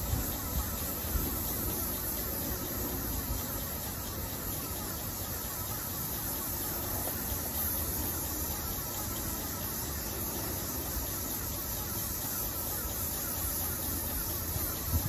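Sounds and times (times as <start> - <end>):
paint sprayer hissing: 0.0 - 15.0.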